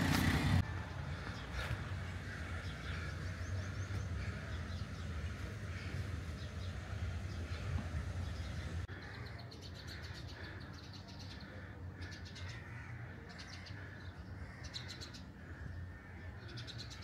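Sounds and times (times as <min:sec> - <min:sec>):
faint outdoor background: 0:00.0 - 0:17.0
small birds chirping: 0:00.8 - 0:17.0.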